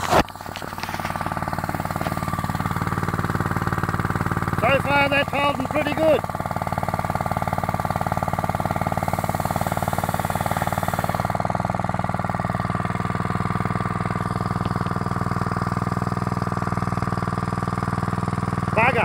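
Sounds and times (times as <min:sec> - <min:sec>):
petrol engine water pump running: 0:00.0 - 0:19.0.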